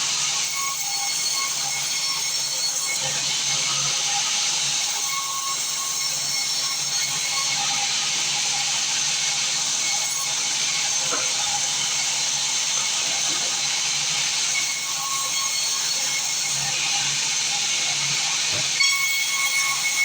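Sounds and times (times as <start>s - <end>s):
wood-cutting saw running: 0.0s - 20.0s.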